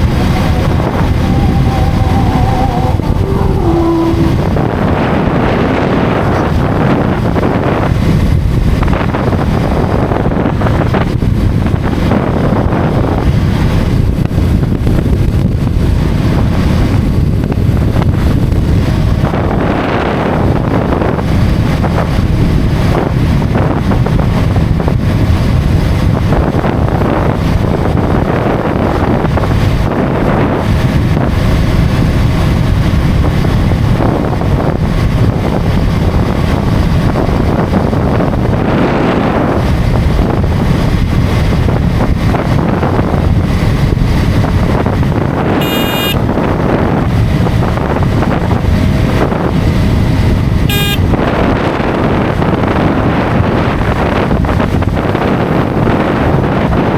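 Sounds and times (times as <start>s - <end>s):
motorcycle road and engine noise: 0.0s - 56.9s
wind rushing over microphone: 0.0s - 56.9s.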